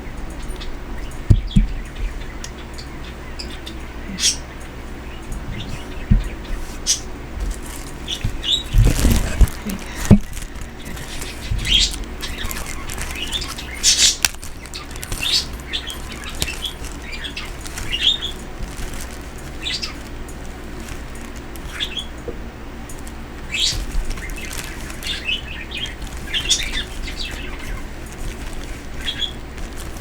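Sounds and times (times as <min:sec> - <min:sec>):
pet birds chirping: 0:00.0 - 0:30.0.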